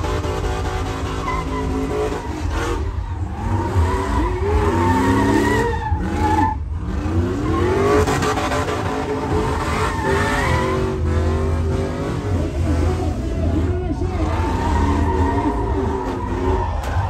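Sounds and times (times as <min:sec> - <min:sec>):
tires squealing on asphalt: 0:00.0 - 0:17.0
truck engine revving: 0:00.0 - 0:17.0.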